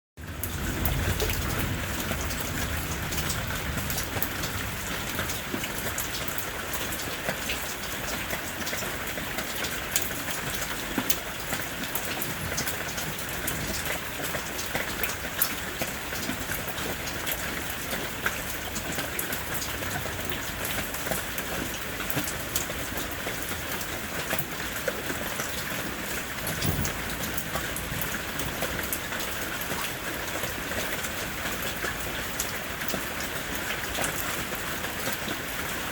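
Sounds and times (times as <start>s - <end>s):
heavy rain: 0.2s - 35.9s.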